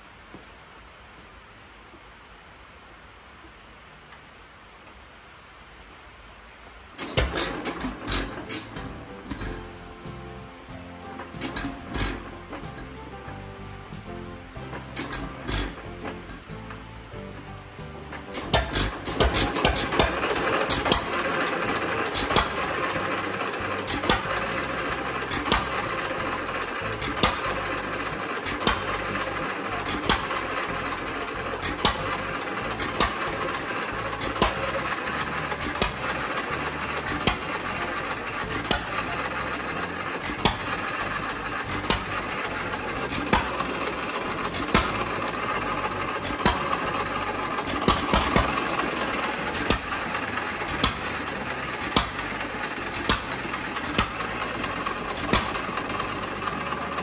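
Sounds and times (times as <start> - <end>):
single-cylinder engine firing and clattering: 7.0 - 10.0, 11.1 - 13.1, 14.7 - 16.8, 18.1 - 57.0.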